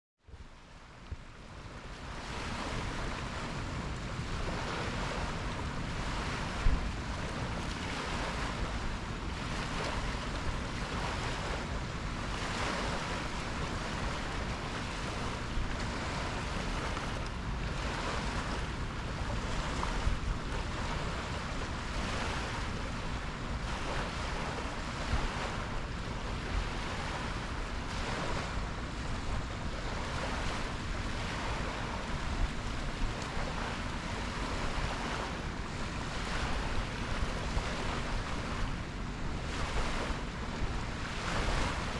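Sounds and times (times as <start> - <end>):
sea waves washing in: 0.3 - 41.9
wind buffeting microphone: 0.3 - 41.9.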